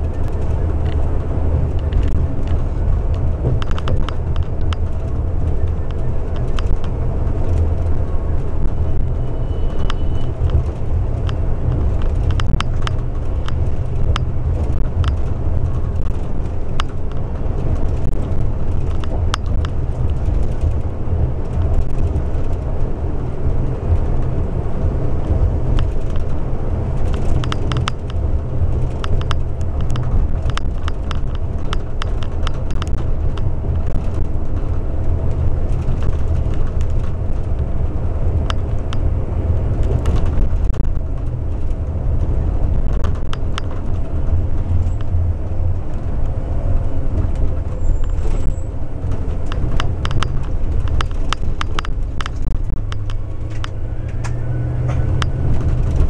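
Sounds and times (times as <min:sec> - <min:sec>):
bus engine and road drone: 0:00.0 - 0:56.0.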